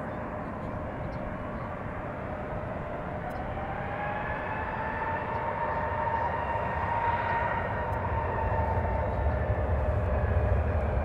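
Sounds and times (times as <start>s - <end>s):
high rising engine whine: 0.0s - 11.0s
jet engines rumbling: 0.0s - 11.0s.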